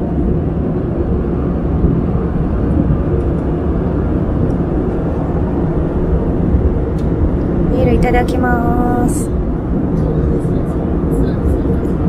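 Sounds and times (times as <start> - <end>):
airplane cabin engine hum: 0.0 - 12.0.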